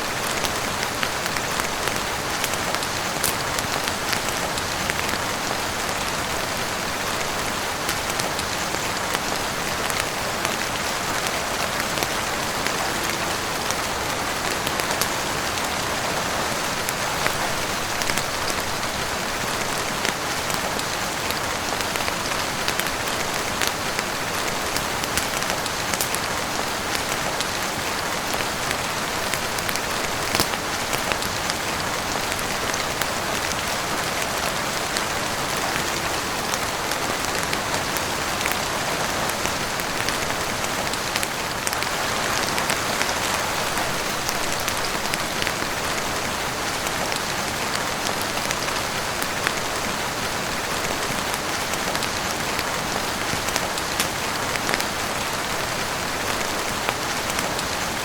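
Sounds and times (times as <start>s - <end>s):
heavy rain on roof and windows: 0.0s - 58.0s.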